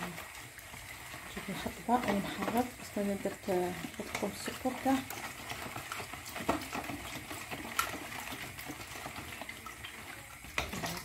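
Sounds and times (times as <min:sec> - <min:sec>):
liquid sloshing in bowl: 0:00.0 - 0:11.0.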